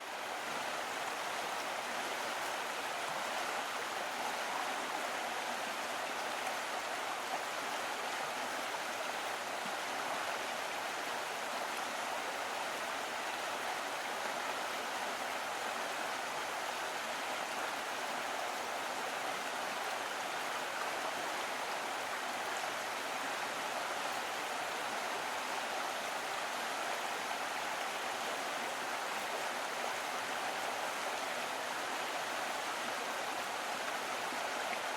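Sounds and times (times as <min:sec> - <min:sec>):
stream flowing: 0:00.0 - 0:34.9.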